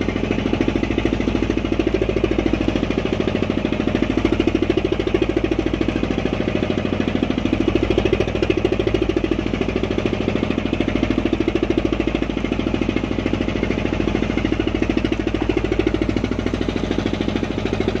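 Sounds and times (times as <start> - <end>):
boat engine chugging: 0.0 - 18.0.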